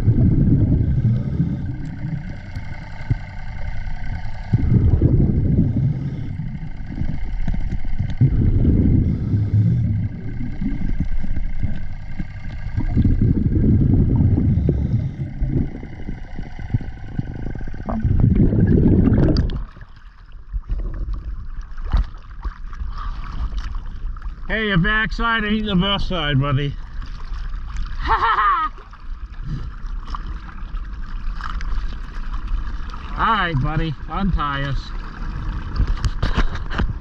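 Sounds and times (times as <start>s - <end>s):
underwater bubbles rumbling: 0.0s - 37.0s
water splashing: 0.0s - 37.0s.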